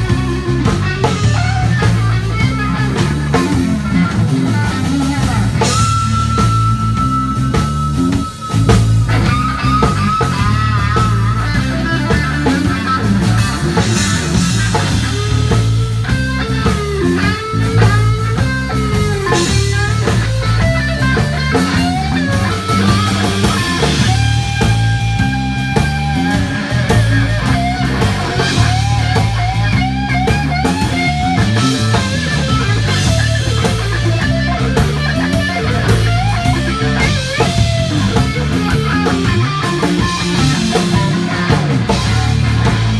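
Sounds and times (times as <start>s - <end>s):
bass line: 0.0s - 42.9s
drum kit: 0.0s - 42.9s
electric guitar lead: 0.0s - 42.9s.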